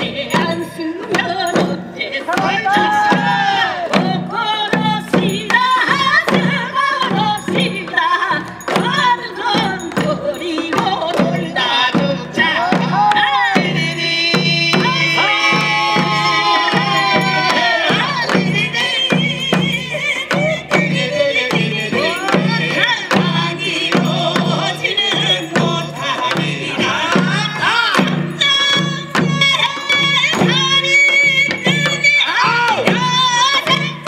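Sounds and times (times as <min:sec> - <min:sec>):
drums beating steady rhythm: 0:00.0 - 0:34.0.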